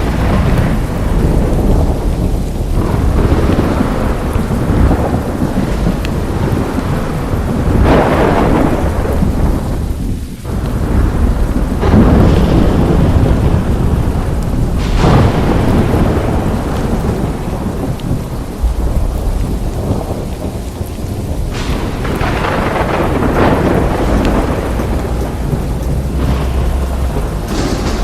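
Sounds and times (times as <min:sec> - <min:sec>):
rolling thunder: 0:00.0 - 0:28.0
steady rain: 0:00.0 - 0:28.0.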